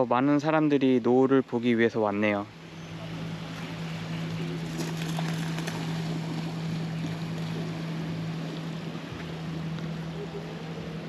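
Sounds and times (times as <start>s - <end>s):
gentle surf: 0.0s - 11.0s
steady low hum: 0.0s - 11.0s.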